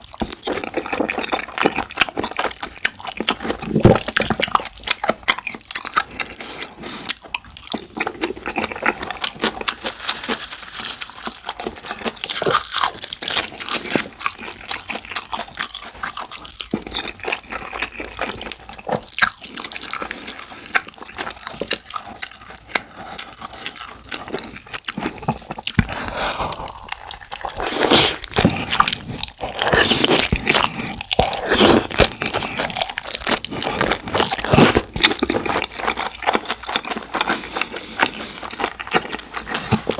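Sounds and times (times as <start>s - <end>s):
wet chewing with crunches: 0.0s - 39.9s.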